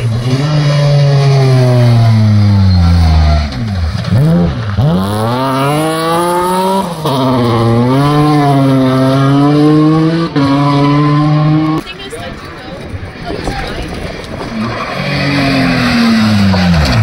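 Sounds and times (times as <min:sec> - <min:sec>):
rally car engine revving: 0:00.0 - 0:12.0, 0:13.1 - 0:17.0.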